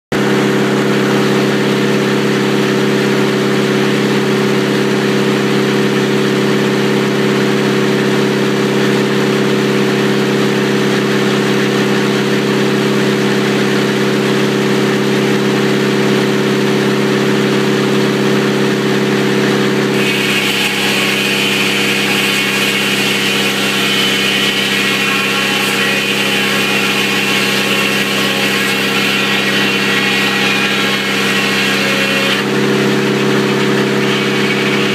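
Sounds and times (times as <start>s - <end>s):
high saw whine: 0.1s - 34.9s
sawmill engine running: 0.1s - 34.9s.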